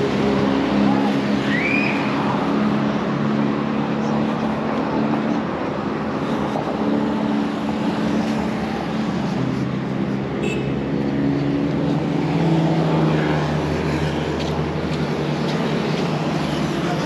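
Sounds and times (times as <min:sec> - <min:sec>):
car and motorbike engines passing: 0:00.0 - 0:17.0.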